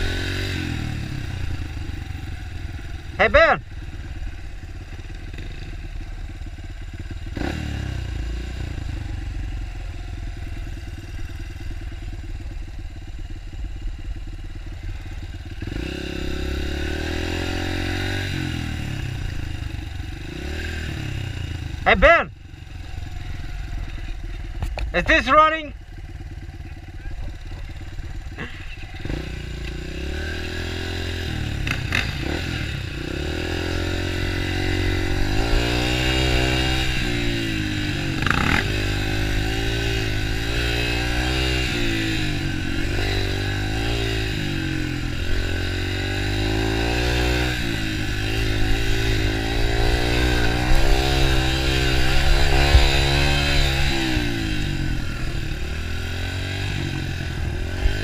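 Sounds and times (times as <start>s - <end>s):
dirt bike engine revving: 0.0s - 6.4s, 7.0s - 58.0s.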